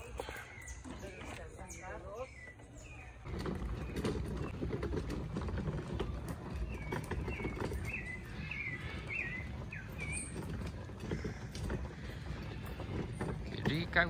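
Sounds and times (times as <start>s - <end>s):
bird chirping: 0.0s - 14.0s
footsteps: 0.0s - 14.0s
rustle of people walking: 0.0s - 14.0s.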